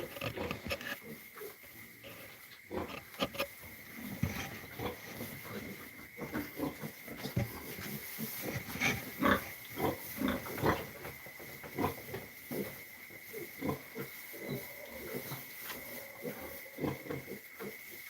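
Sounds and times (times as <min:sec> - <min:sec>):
young animal grunting and snuffling: 0:00.0 - 0:18.0.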